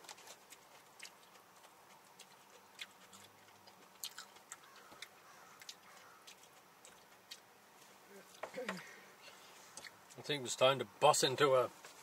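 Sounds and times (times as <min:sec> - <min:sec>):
people chewing: 0:00.0 - 0:10.6.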